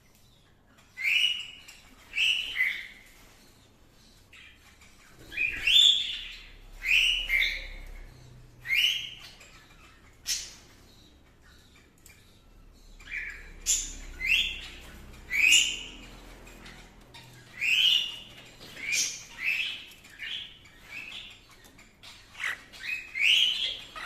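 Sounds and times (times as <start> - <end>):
cockatiels chirping calls: 0.0 - 24.0.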